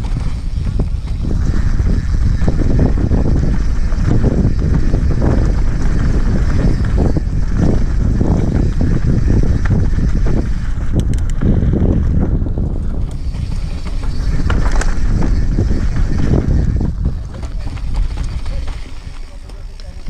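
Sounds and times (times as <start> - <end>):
bike frame rattling and knocking: 0.0 - 20.0
wind rumbling on microphone: 0.0 - 20.0.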